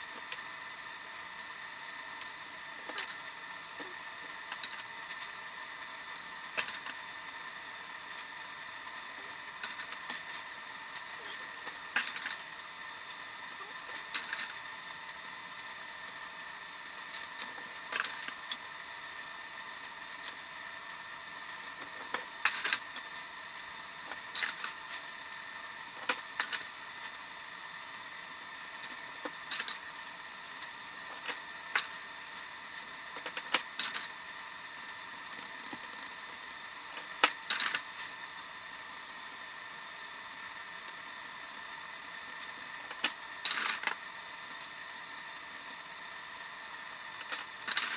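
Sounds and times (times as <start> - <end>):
faint high whine: 0.0 - 47.9.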